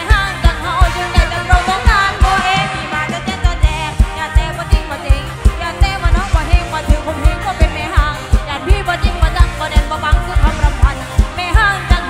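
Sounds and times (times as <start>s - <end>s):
live band playing: 0.0s - 12.0s
woman singing: 0.0s - 12.0s.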